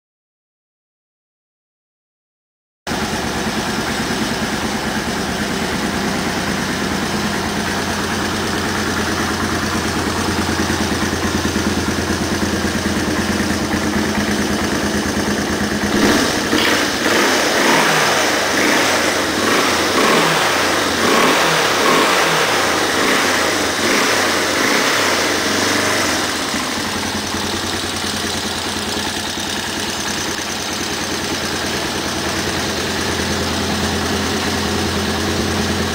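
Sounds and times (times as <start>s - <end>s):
atv engine idling: 2.9s - 35.9s.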